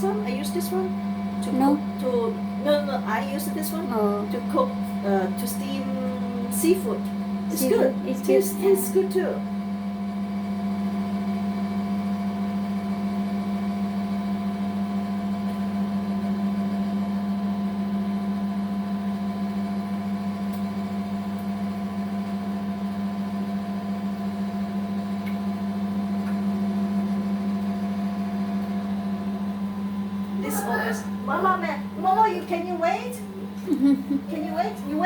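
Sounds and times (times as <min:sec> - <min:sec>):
steam oven humming: 0:00.0 - 0:35.0.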